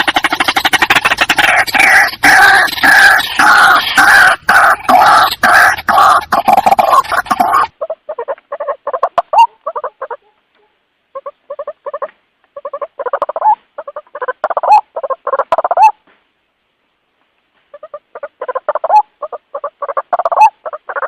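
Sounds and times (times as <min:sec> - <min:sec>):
waterhen calling: 0:00.0 - 0:10.4, 0:11.1 - 0:16.0, 0:17.7 - 0:21.0.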